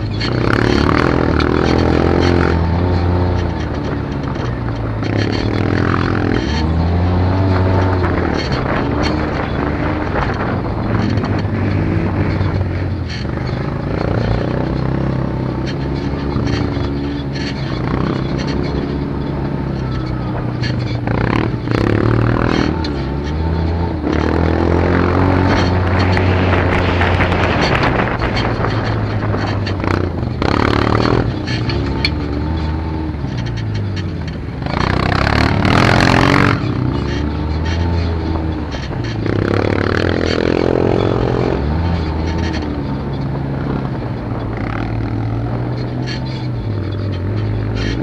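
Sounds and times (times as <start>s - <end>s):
quad bike engine revving: 0.0s - 48.0s
rushes of noise: 0.0s - 48.0s.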